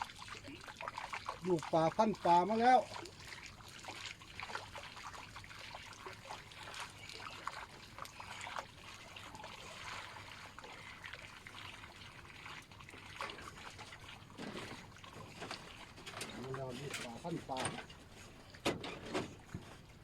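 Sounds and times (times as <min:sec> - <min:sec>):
small water splashes: 0:00.0 - 0:20.0
water trickling and dripping: 0:00.0 - 0:20.0.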